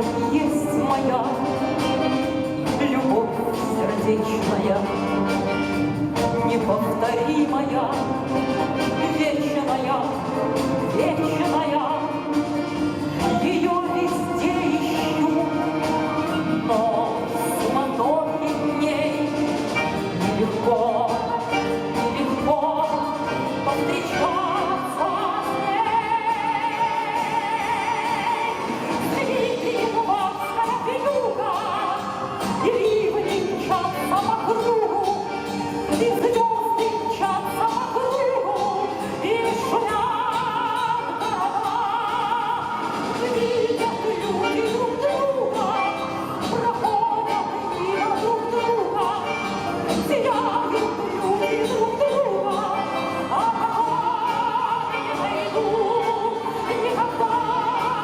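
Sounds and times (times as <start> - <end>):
song accompaniment: 0.0 - 58.0.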